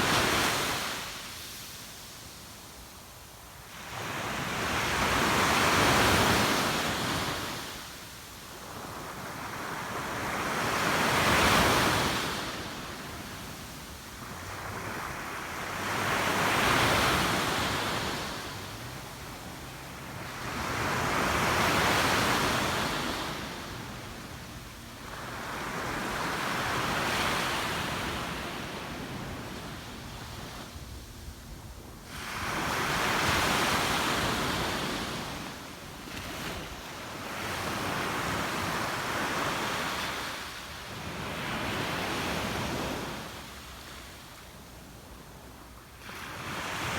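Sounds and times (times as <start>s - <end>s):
surf breaking on a beach: 3.7s - 44.2s.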